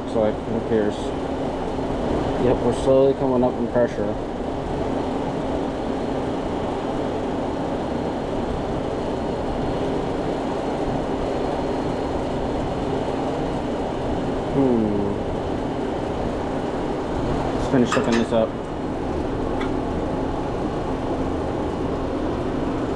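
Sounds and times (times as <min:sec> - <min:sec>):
fans and machinery whirring: 0:00.0 - 0:22.9.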